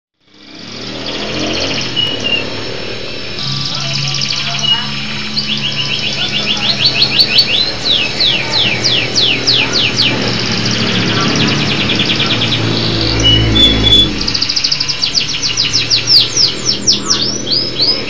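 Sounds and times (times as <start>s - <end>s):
low rumble: 0.3s - 17.9s
canary singing trills: 0.3s - 18.0s.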